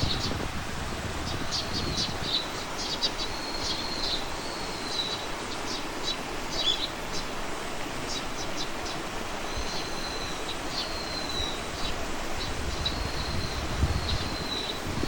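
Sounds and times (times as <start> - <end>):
small birds singing: 0.0 - 15.0
steady outdoor hiss: 0.0 - 15.0.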